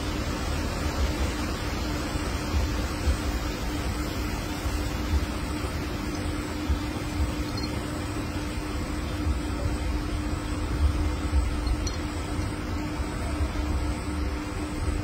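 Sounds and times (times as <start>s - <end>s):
faint constant hum: 0.0s - 15.0s.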